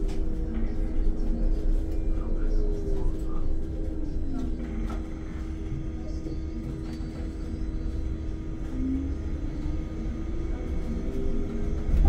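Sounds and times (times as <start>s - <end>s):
electric bus hum: 0.0s - 12.0s.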